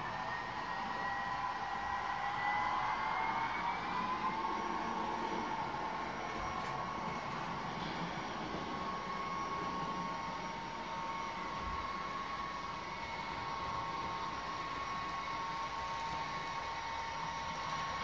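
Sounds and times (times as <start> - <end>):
model train whirring: 0.0 - 18.0.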